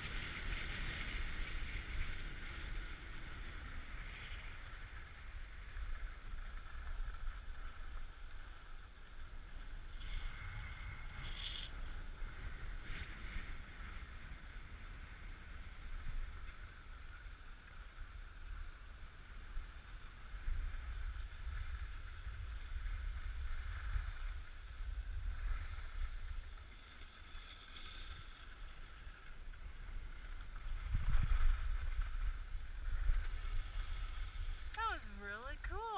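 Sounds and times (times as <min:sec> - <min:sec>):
wind rumbling on microphone: 0:00.0 - 0:35.7
skis scraping over snow: 0:00.0 - 0:35.9.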